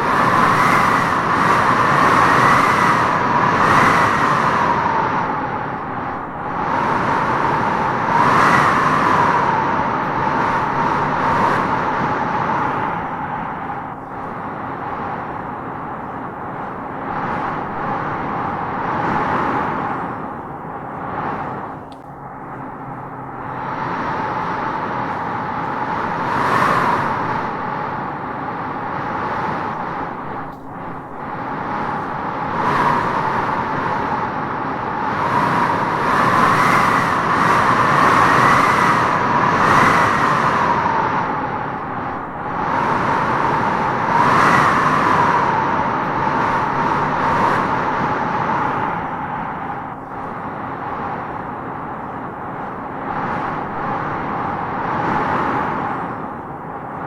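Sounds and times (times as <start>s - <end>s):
howling wind gusting through trees: 0.0s - 57.0s.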